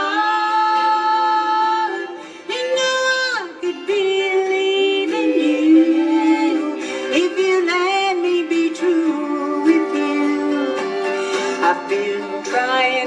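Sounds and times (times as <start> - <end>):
acoustic string instruments: 0.0 - 13.0.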